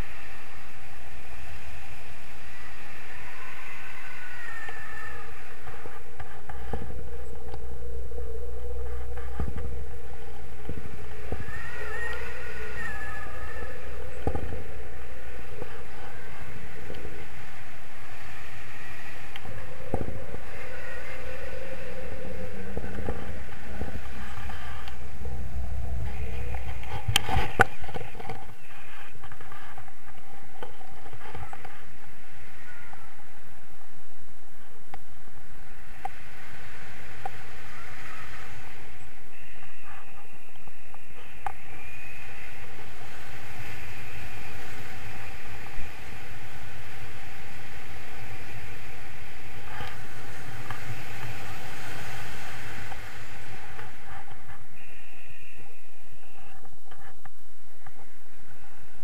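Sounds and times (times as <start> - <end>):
wind buffeting a microphone: 0.0 - 59.0.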